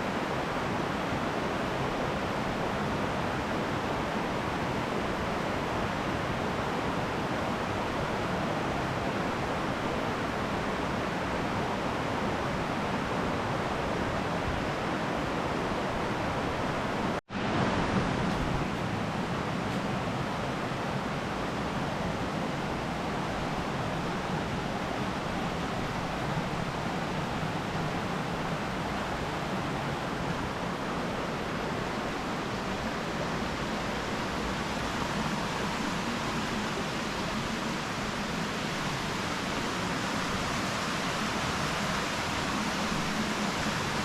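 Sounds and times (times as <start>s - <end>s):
steady rushing noise: 0.0s - 44.0s.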